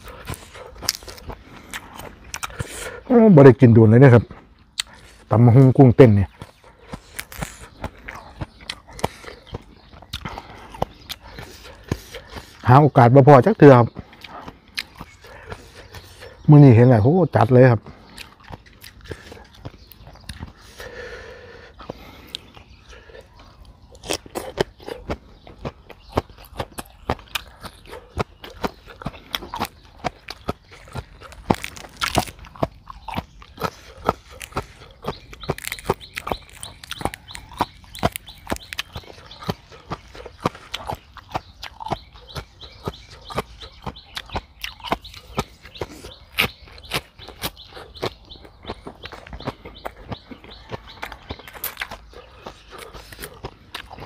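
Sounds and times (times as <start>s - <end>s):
person chewing crunchy food: 0.0s - 3.4s, 4.1s - 16.7s, 17.4s - 54.0s.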